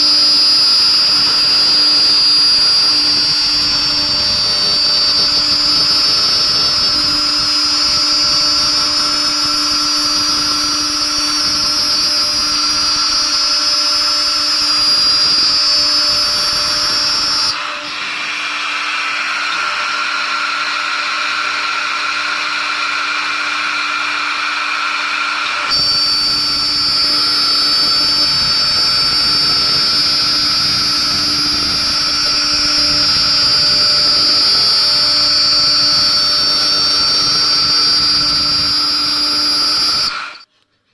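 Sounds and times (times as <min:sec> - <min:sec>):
router spindle whine: 0:00.0 - 0:40.5.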